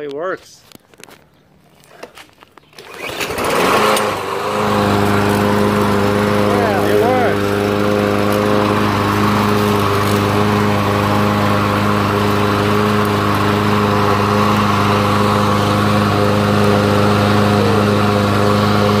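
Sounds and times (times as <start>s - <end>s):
lawn mower engine running: 1.8s - 19.0s.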